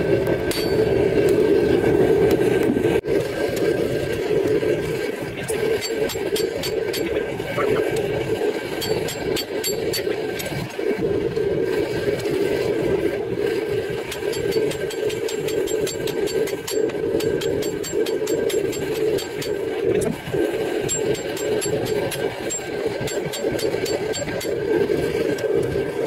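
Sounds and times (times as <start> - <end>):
steady machine drone: 0.0 - 26.0.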